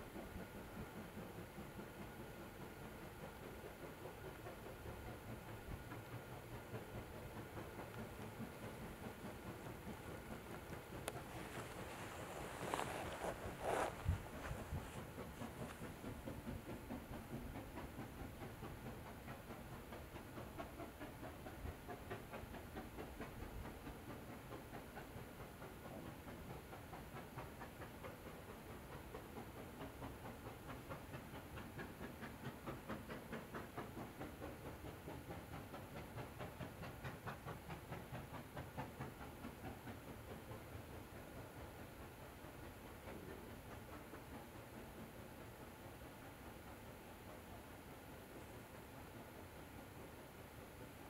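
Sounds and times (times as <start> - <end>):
steam hissing: 0.0 - 51.0
steam locomotive exhaust beats: 0.0 - 51.0.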